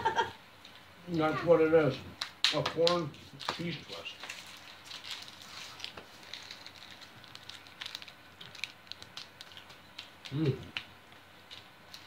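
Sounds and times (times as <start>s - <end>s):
plastic wrapper crinkling: 1.9s - 12.0s.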